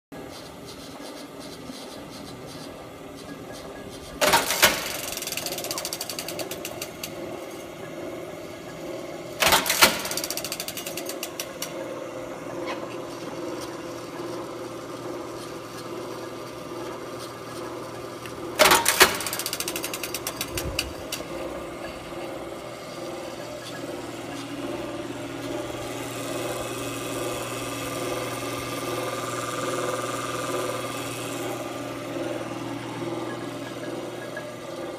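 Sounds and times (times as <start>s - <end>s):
machine motor hum: 0.2s - 34.9s.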